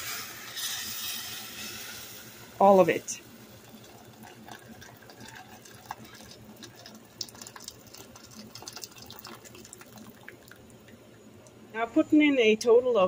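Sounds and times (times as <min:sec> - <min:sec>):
hot water pouring into pot: 0:00.0 - 0:11.2.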